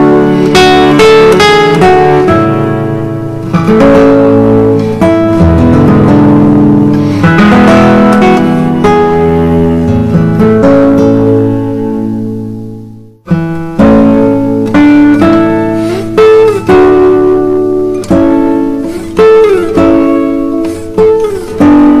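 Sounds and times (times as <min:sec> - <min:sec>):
guitar plucked notes and chords: 0:00.0 - 0:22.0.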